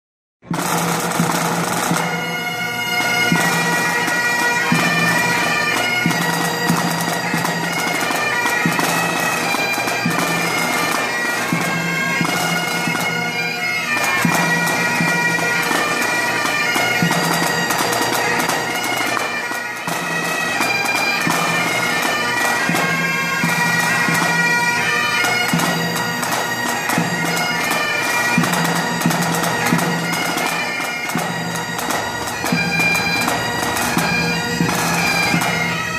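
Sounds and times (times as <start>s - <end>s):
bagpipes playing: 0.5s - 35.9s.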